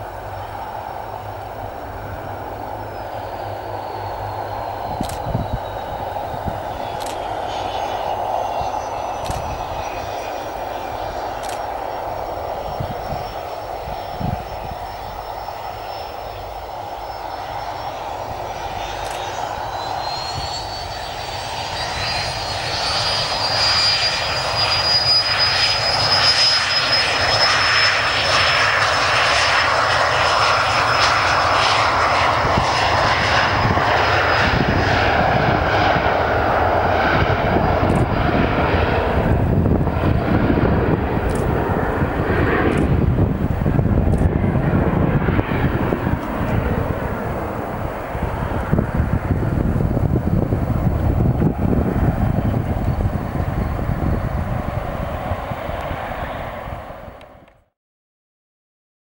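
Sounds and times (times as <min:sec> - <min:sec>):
jet engine whine: 0:00.0 - 0:57.8.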